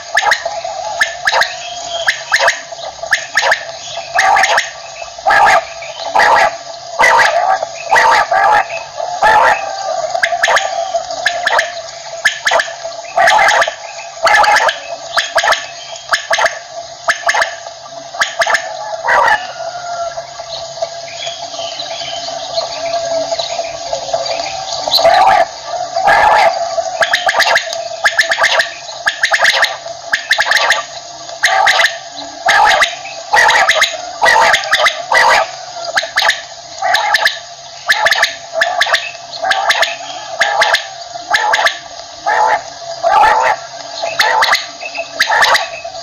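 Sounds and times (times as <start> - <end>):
quail calls: 0.0 - 20.6, 21.2 - 46.0.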